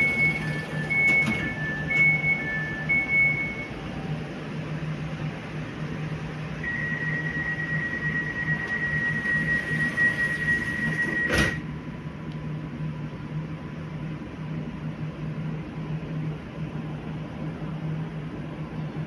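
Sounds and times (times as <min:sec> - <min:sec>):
low steady train hum: 0:00.0 - 0:19.0
train high whine: 0:00.0 - 0:19.0.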